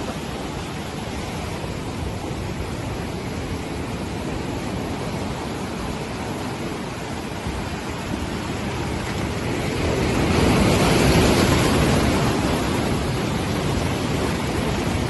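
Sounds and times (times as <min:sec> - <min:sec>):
surf breaking against rocks: 0:00.0 - 0:15.0.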